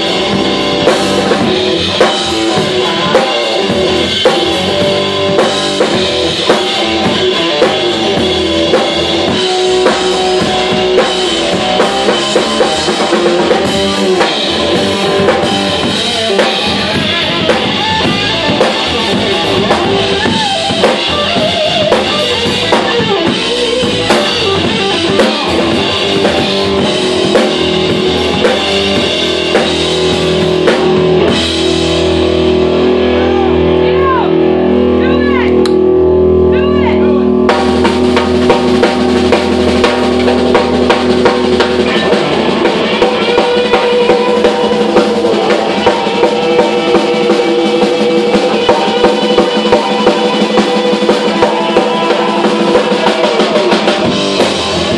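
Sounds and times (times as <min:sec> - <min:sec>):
electric guitar bending notes: 0:00.0 - 0:54.9
live rock band playing: 0:00.0 - 0:54.9.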